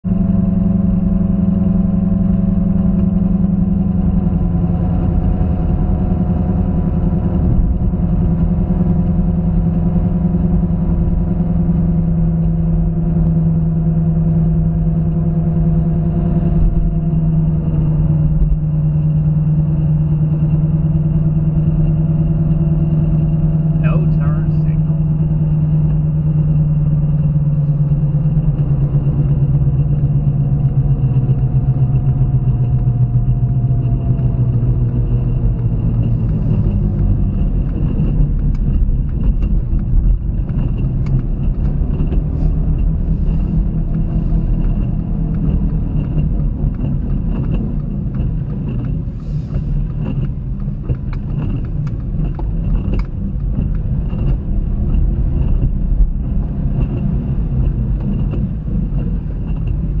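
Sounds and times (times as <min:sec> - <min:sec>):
car engine and tyre rumble: 0:00.0 - 1:00.0.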